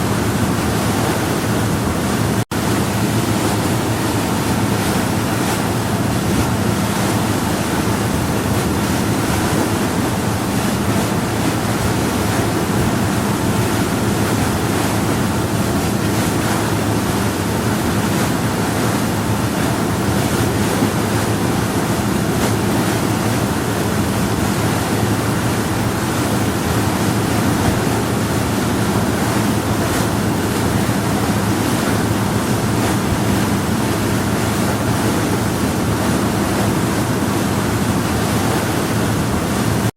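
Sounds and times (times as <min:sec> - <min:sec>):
boat engine hum: 0:00.0 - 0:39.9
water rushing along hull: 0:00.0 - 0:39.9.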